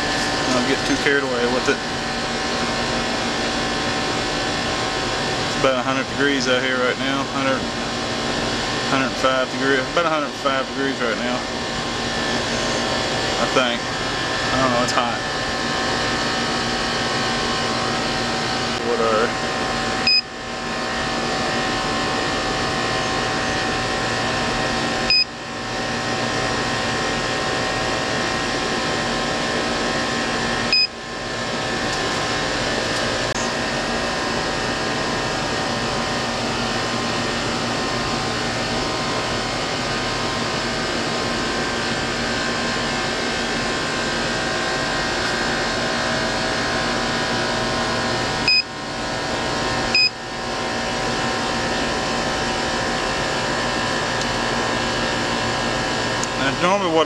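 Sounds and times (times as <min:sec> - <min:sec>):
condenser fan and compressor whir: 0:00.0 - 0:57.0.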